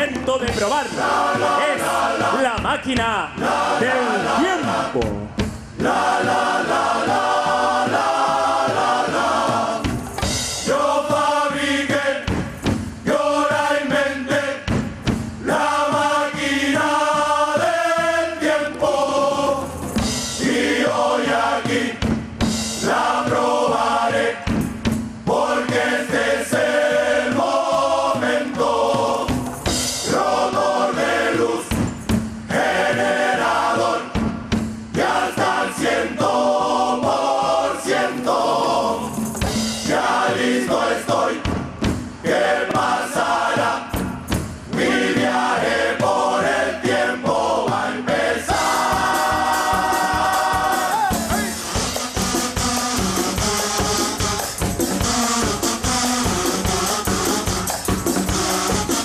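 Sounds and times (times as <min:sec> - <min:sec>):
chorus singing in harmony: 0:00.0 - 0:59.0
drums: 0:00.0 - 0:59.0.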